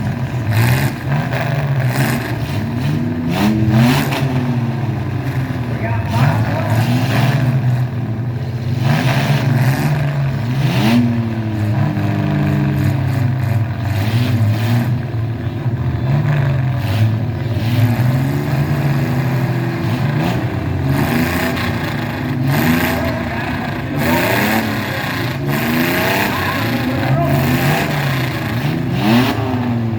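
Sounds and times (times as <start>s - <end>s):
mini truck engines revving: 0.0s - 29.9s.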